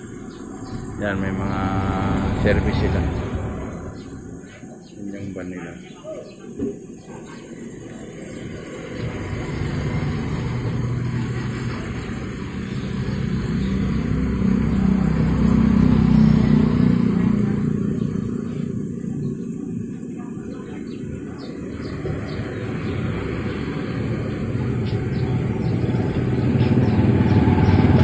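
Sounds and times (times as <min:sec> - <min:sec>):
vehicle engine passing: 0:00.0 - 0:05.6, 0:07.7 - 0:28.0.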